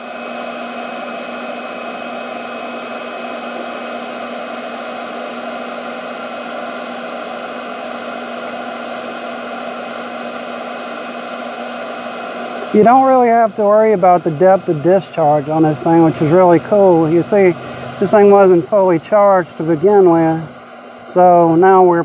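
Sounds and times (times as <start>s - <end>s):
heat gun blowing air: 0.0s - 22.0s.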